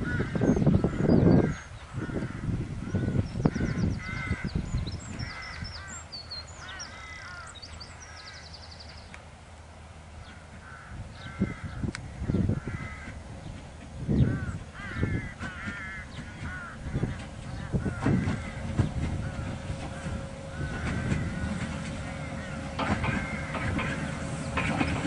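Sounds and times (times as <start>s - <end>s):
harsh repeated bird calls: 0.0s - 9.1s, 10.1s - 25.0s
low rumbles: 0.0s - 25.0s
small birds twittering: 0.1s - 9.3s, 10.2s - 24.8s.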